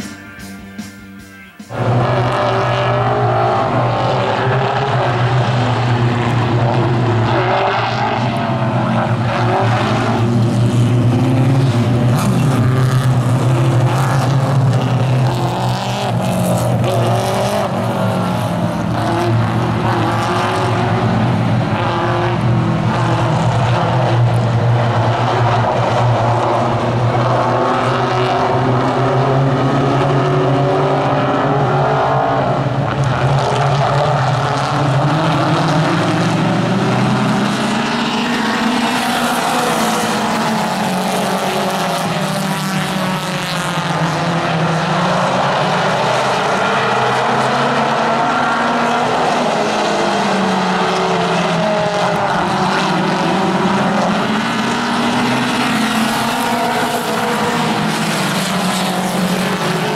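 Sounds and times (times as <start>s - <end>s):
race car engines: 0.0s - 59.9s.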